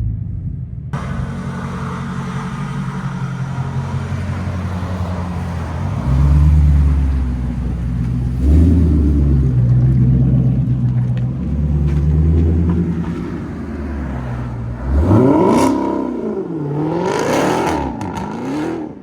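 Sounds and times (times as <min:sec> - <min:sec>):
car engine deep exhaust note: 0:00.1 - 0:18.8
engine throttle surges: 0:01.0 - 0:19.0.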